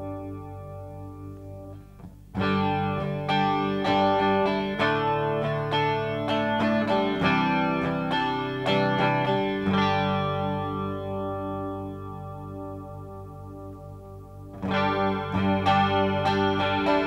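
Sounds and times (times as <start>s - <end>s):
electric guitar chords with chorus: 0.0s - 17.0s.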